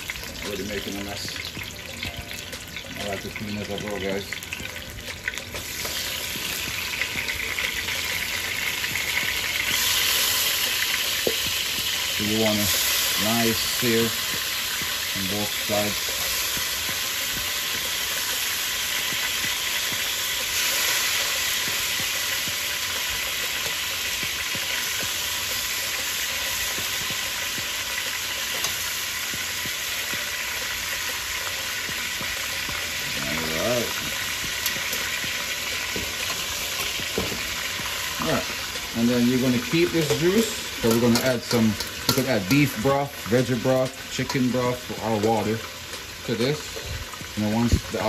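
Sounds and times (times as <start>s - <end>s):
meat sizzling in oil: 0.0s - 48.0s.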